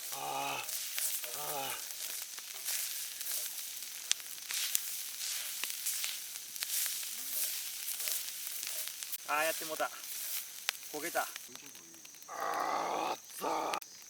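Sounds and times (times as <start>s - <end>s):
food sizzling on hot plate: 0.0s - 14.0s
sharp pops and crackles: 0.0s - 14.0s.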